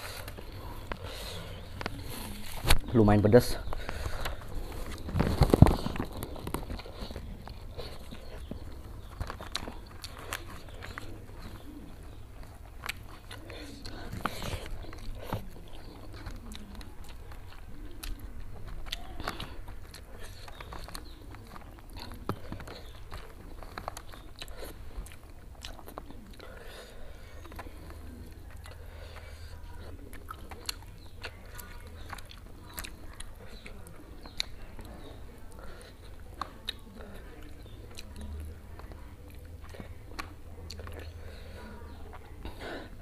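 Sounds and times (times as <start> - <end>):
food crunching: 0.0 - 43.0
wet chewing and smacking: 0.0 - 43.0.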